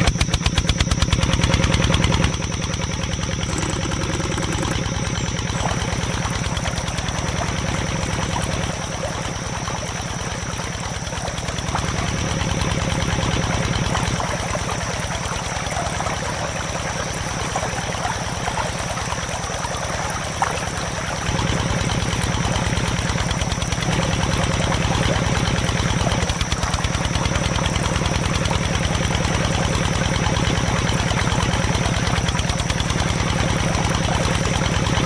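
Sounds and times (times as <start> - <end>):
small diesel engine chugging: 0.0 - 35.0.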